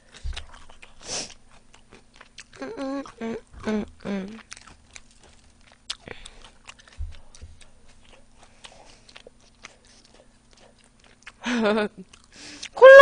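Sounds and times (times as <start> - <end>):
close chewing and crunching: 0.0 - 12.8.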